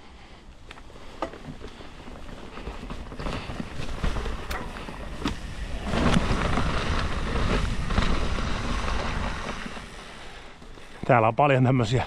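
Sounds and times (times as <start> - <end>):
bike clicks and rattles: 0.6 - 11.2
bike tyres rolling over ground: 0.6 - 12.0.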